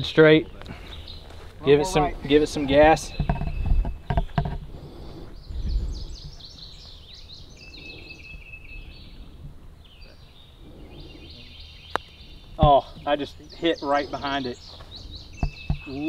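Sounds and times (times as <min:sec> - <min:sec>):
birds singing falling chirps: 0:00.0 - 0:16.0.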